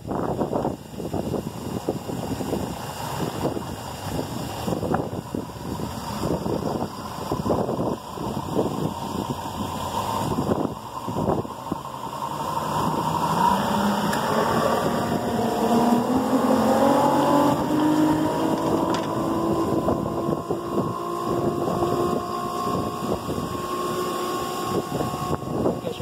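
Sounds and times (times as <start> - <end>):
outboard motorboat engine: 0.0 - 26.0.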